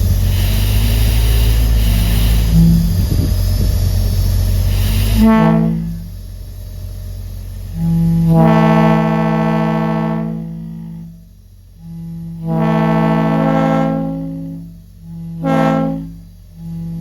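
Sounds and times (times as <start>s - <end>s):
locomotive air horn blasts: 0.0s - 3.6s, 4.6s - 6.2s, 7.6s - 17.0s
steady low rumble: 0.0s - 17.0s.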